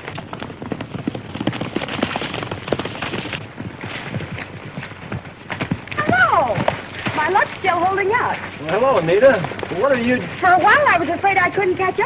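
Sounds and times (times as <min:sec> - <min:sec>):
horse galloping hoofbeats: 0:00.0 - 0:12.0.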